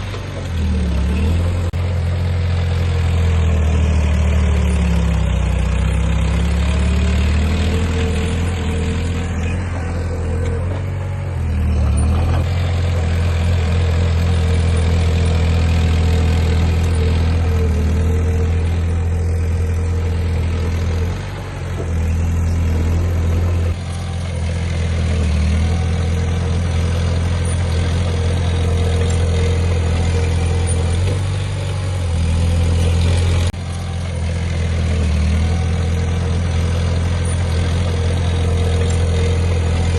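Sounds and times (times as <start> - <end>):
heavy machinery diesel engine droning: 0.0 - 39.9.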